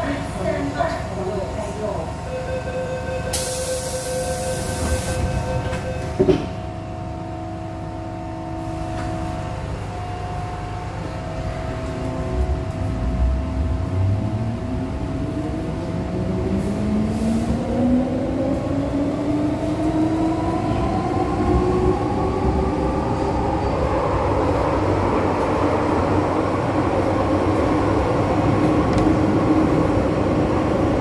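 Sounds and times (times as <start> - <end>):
wheels rumbling on track: 4.2 - 31.0.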